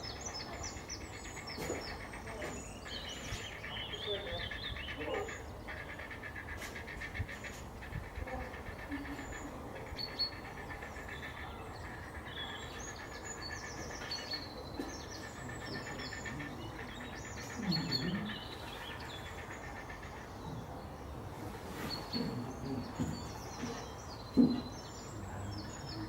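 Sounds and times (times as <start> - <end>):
birds singing and chirping: 0.0 - 26.0.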